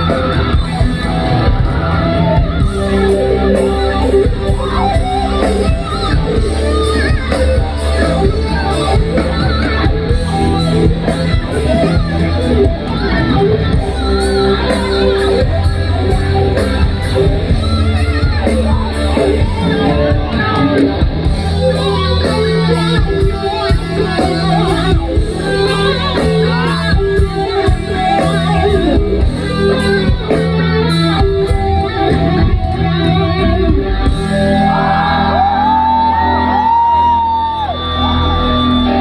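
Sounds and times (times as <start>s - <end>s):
live rock band: 0.0s - 39.0s.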